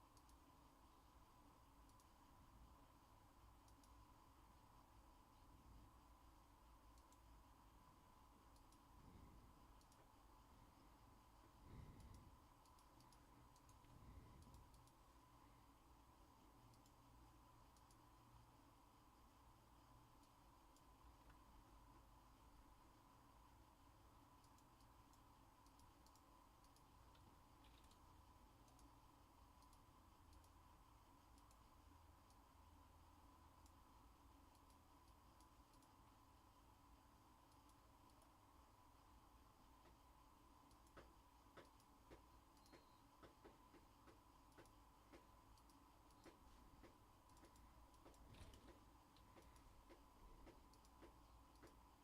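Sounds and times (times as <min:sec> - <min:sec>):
faint ticks: 0:00.0 - 0:02.3, 0:03.5 - 0:04.4, 0:06.2 - 0:07.4, 0:08.4 - 0:15.3, 0:16.5 - 0:18.4, 0:19.7 - 0:22.5, 0:24.3 - 0:52.0
small light clicks: 0:00.0 - 0:02.5, 0:03.4 - 0:05.5, 0:06.2 - 0:07.4, 0:08.4 - 0:15.2, 0:16.5 - 0:18.4, 0:19.7 - 0:22.6, 0:24.2 - 0:52.0
steady hum: 0:00.0 - 0:52.0.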